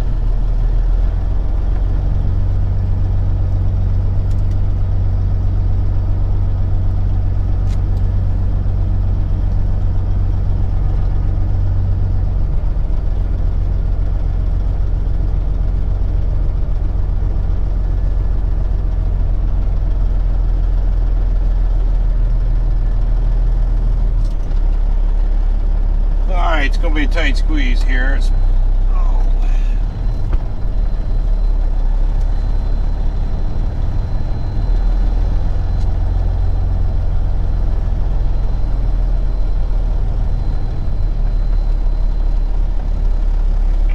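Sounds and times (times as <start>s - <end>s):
diesel truck engine humming: 0.0s - 43.9s.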